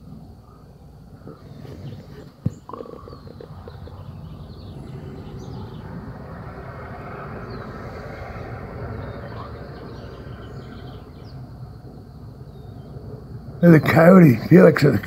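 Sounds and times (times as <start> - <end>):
steady low rumble: 0.0 - 15.0
faint high bird chirps: 1.2 - 14.5.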